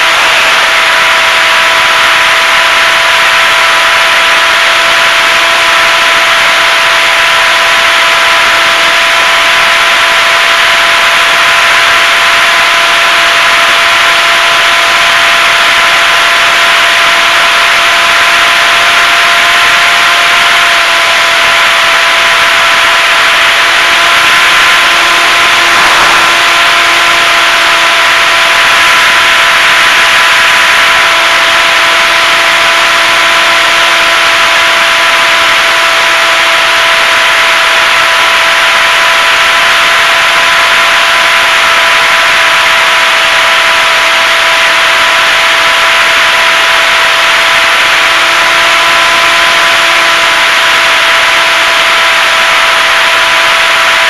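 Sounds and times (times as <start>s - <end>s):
electric motor whine: 0.0s - 54.0s
rush of wind and propeller air: 0.1s - 54.0s.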